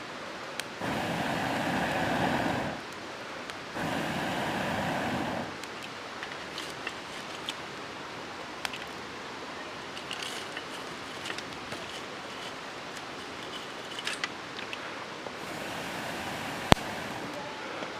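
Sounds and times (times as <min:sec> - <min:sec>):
campfire hissing and crackling: 0:00.0 - 0:17.9.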